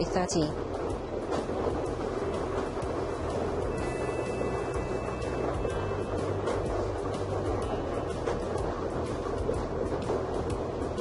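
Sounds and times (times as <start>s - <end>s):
background music: 0.0s - 11.0s
lottery machine rumbling: 0.0s - 11.0s.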